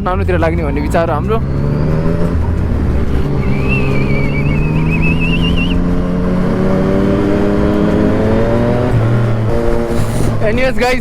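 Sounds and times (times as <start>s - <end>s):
motorcycle engine accelerating: 0.0s - 11.0s
wind rushing: 0.9s - 11.0s.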